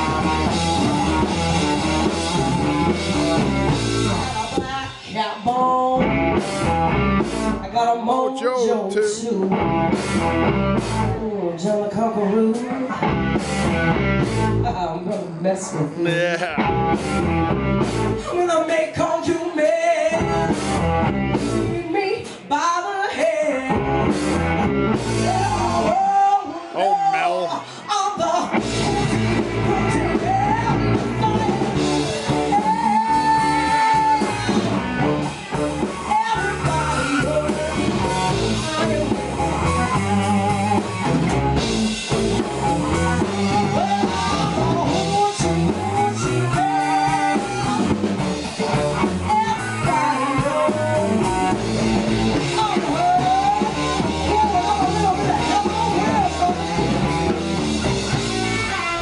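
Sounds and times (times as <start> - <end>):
drum kit: 0.0 - 8.2, 9.1 - 11.3, 12.2 - 59.0
electric guitars: 0.0 - 59.0.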